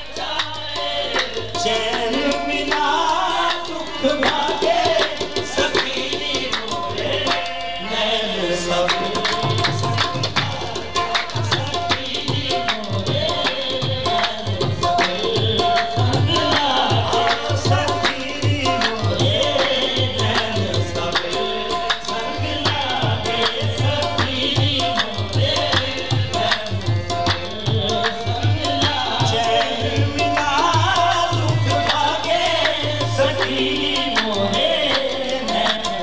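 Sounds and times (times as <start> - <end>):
man singing into a microphone: 0.0 - 36.0
tabla playing: 0.0 - 36.0.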